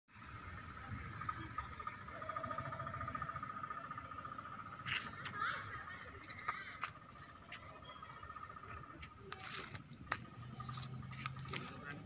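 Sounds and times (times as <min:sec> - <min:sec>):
high continuous insect trill: 0:00.1 - 0:12.0
low pulsing insect trill: 0:00.1 - 0:12.0.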